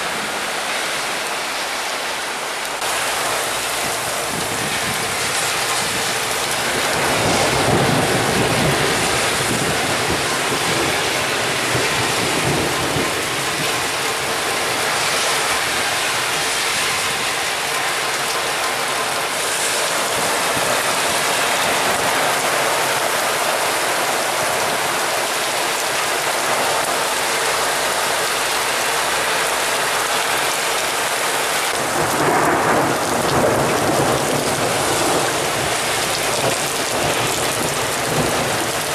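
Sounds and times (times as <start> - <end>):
gusting wind: 0.0 - 38.9
heavy rain: 0.0 - 38.9.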